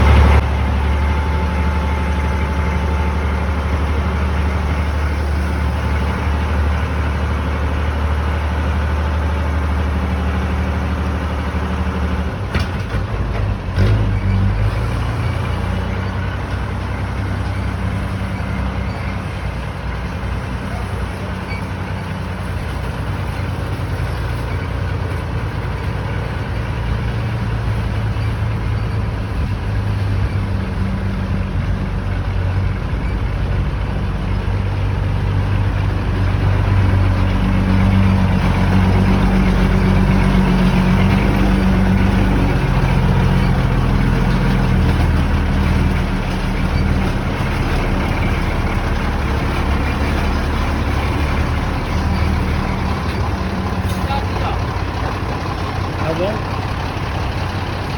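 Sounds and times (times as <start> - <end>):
diesel engine under load: 0.0 - 57.9.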